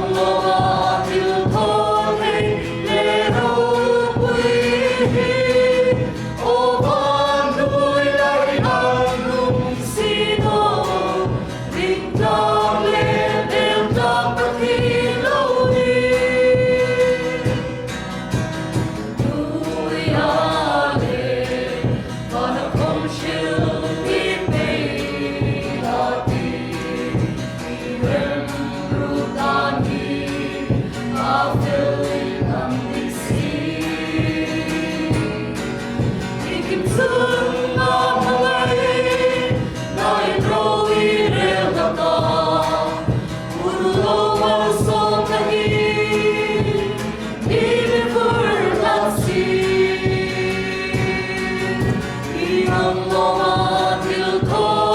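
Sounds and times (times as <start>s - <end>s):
group singing gospel song: 0.0s - 54.9s.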